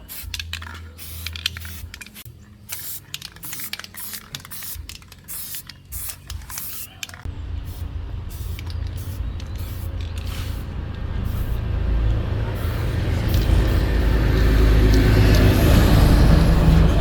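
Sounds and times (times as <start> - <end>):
hissing spray bursts: 0.0 - 17.0.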